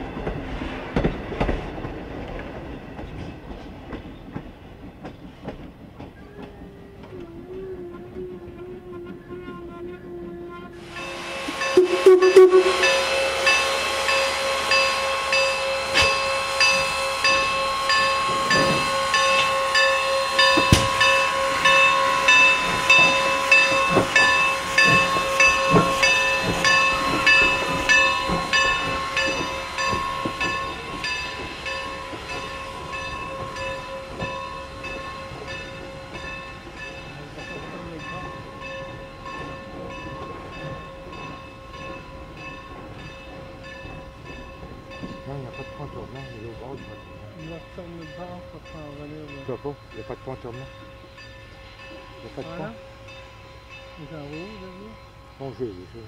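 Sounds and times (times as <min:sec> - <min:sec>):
steam train running: 0:00.0 - 0:56.0.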